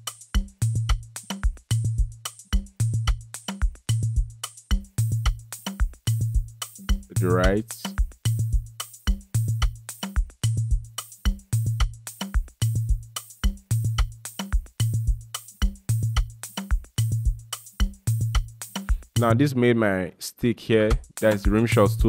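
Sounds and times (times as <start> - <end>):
clicky percussion and shakers: 0.0 - 19.3, 20.9 - 22.0
deep kick drum: 0.4 - 19.3, 20.9 - 22.0.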